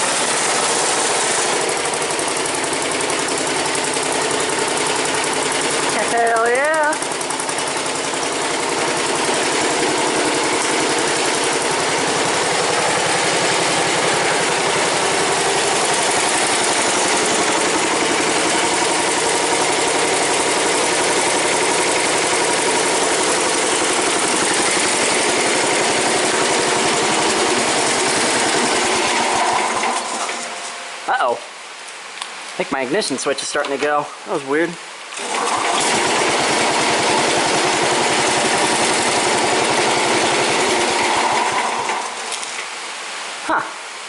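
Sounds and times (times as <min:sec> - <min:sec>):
garden tractor engine running: 0:00.0 - 0:31.4, 0:32.6 - 0:42.7.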